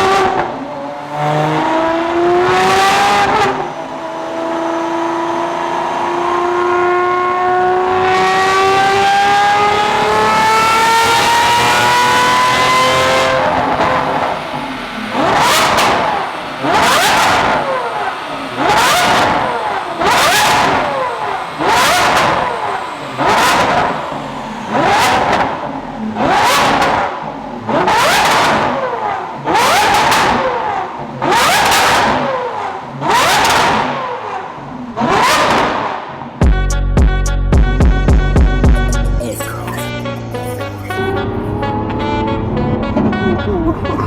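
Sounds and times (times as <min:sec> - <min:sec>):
sports car engine revving: 0:00.0 - 0:44.0.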